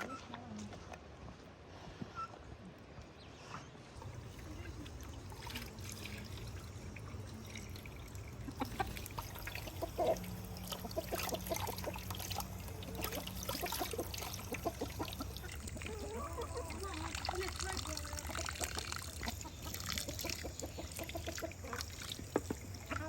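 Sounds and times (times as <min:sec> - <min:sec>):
small splashes and ticks: 0:04.0 - 0:23.0
water trickling and pouring: 0:04.0 - 0:23.0.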